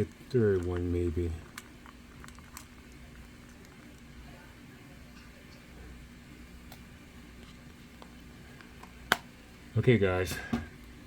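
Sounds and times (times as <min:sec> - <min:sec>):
low hum with faint hiss: 0:00.0 - 0:11.0.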